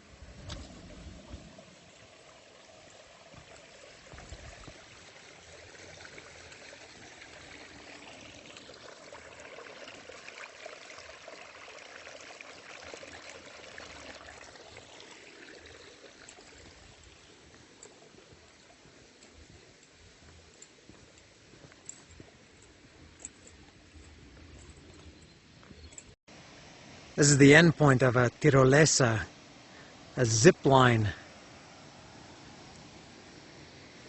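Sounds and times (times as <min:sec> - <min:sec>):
stream water rushing: 0:00.0 - 0:23.6, 0:26.3 - 0:34.0.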